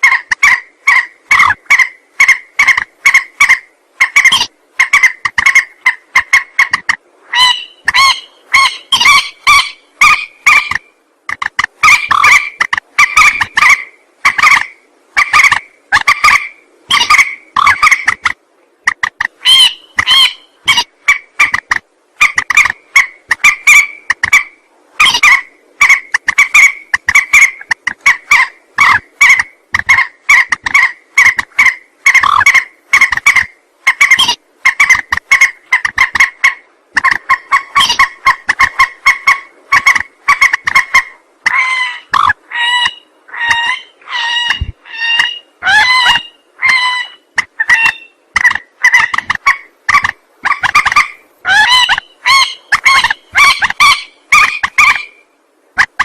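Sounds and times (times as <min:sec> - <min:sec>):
rail bird calling loudly: 0:00.0 - 0:55.2.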